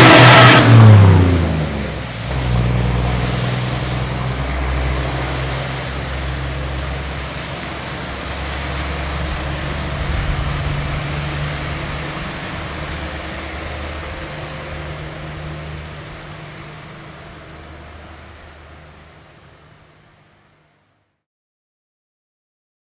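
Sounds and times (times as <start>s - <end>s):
car passing: 0.0s - 19.8s
low engine drone: 0.0s - 20.8s.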